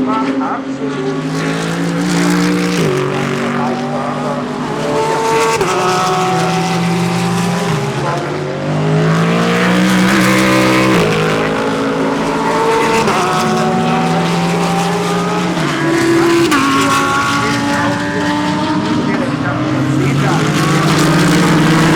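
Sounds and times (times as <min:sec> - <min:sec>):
race cars passing: 0:00.0 - 0:21.9.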